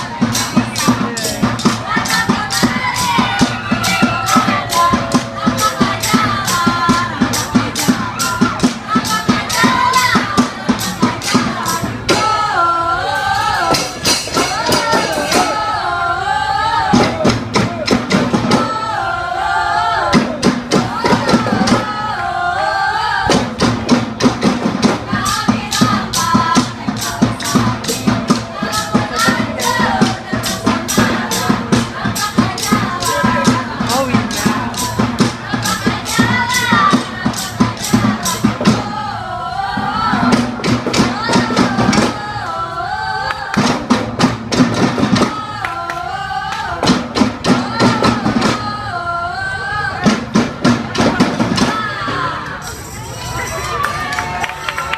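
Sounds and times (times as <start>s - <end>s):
drum and jingle percussion ensemble: 0.0s - 54.9s
voices singing a melody: 0.0s - 54.9s.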